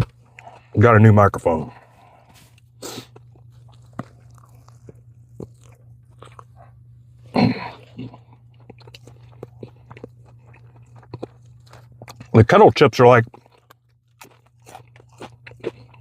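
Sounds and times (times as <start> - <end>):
steady low hum: 0.0 - 16.0
person crunching potato chips: 2.3 - 12.5, 13.2 - 16.0.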